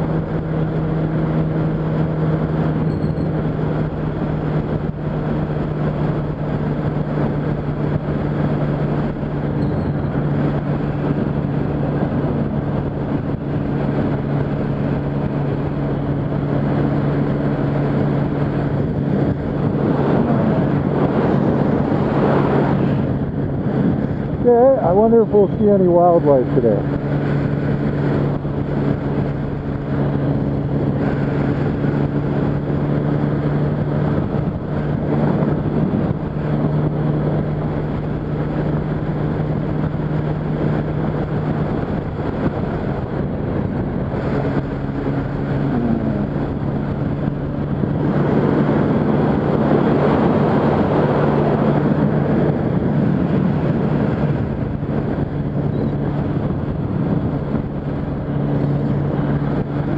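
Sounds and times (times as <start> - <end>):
motorcycle engine cruising: 0.0 - 59.9
wind rush: 0.0 - 59.9.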